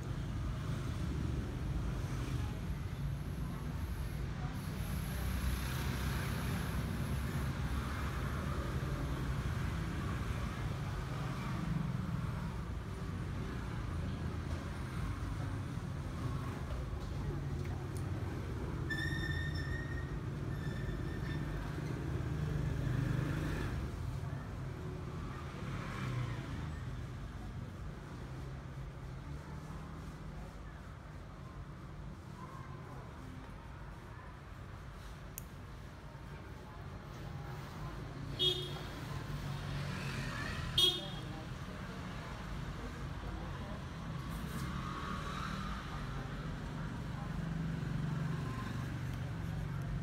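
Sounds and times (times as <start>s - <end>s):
road traffic rumble: 0.0s - 50.0s
vehicles passing: 0.0s - 50.0s.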